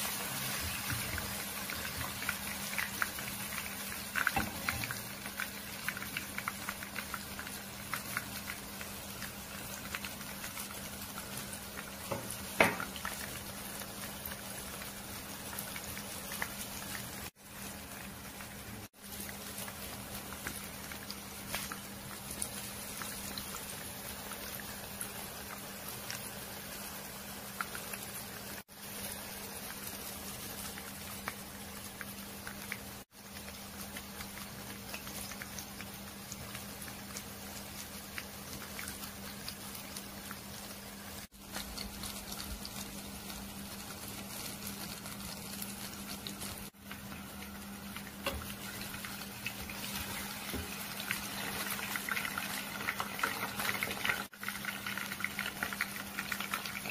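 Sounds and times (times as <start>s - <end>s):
chicken sizzling in hot oil: 0.0s - 56.9s.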